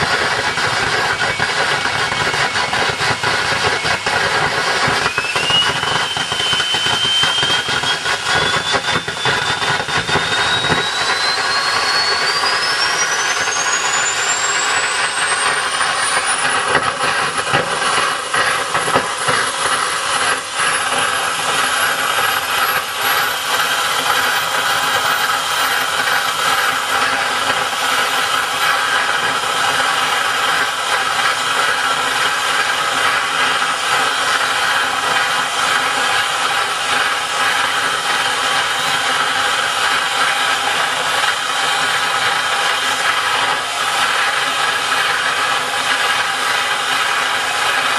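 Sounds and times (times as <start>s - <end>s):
high turbine whine: 0.0s - 47.9s
jet engine roar: 0.0s - 47.9s.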